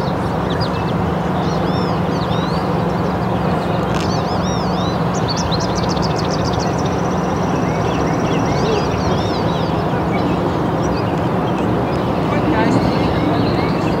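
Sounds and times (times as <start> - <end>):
rushing background noise: 0.0 - 14.0
songbirds singing: 0.0 - 14.0.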